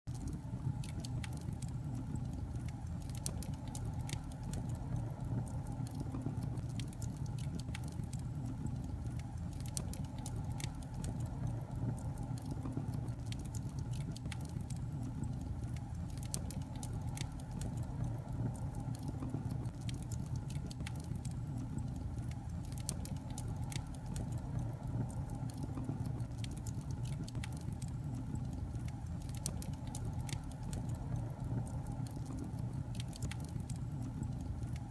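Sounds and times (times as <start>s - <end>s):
fire crackling and popping: 0.1s - 34.9s
low rumble of flames: 0.1s - 34.9s.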